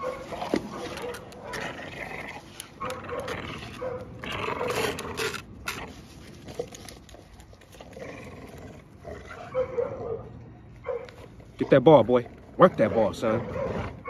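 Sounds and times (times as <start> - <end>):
dogs growling: 0.0 - 6.8, 7.6 - 10.3, 11.0 - 14.0.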